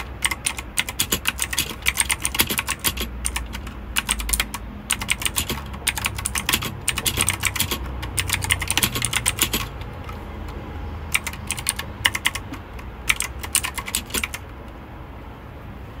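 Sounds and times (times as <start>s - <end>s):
mechanical keyboard typing: 0.0s - 14.7s.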